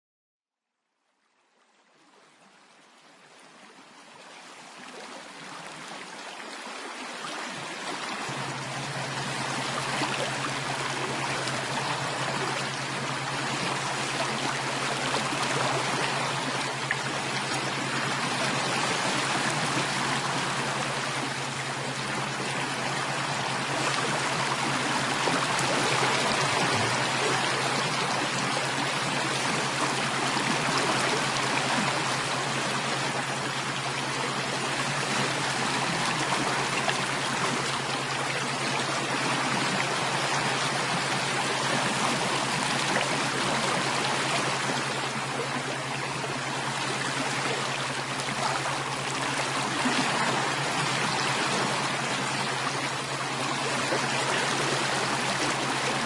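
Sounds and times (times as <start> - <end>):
running water stream: 1.1 - 56.0
steady low hum: 7.8 - 56.0.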